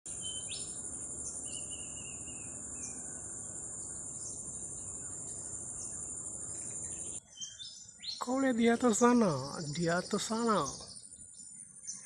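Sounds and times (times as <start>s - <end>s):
bird chirps and calls: 0.1s - 12.0s
insects trilling: 0.1s - 12.0s.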